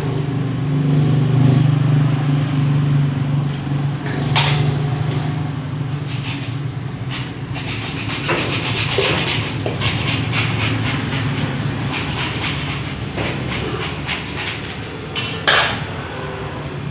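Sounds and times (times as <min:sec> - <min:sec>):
engine drone: 0:00.0 - 0:16.9.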